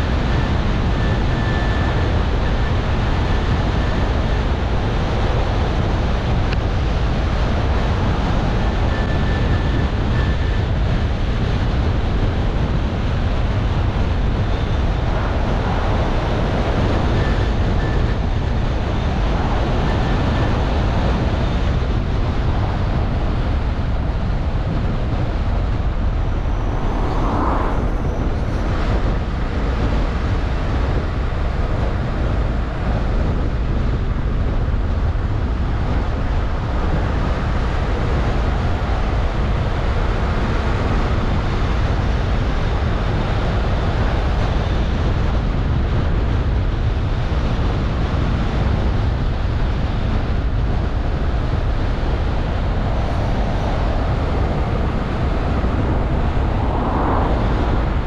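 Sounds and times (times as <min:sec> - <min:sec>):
road and tyre rumble: 0:00.0 - 0:58.0
wind noise: 0:00.0 - 0:58.0.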